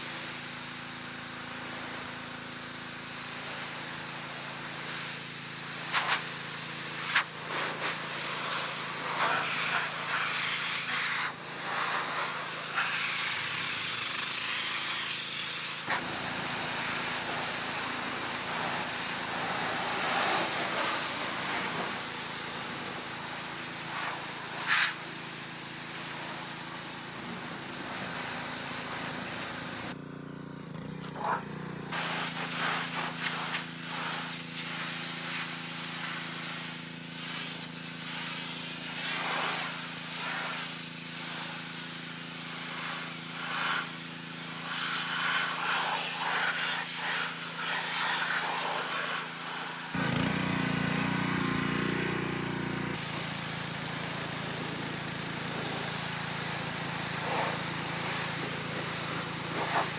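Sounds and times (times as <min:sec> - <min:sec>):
pressure washer spraying metal: 0:00.0 - 0:30.0, 0:31.9 - 0:59.9.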